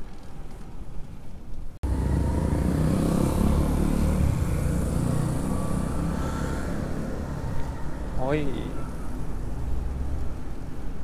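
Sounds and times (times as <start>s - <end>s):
road and wind rumble: 0.0s - 11.0s
motor vehicle engine rumble: 0.6s - 11.0s.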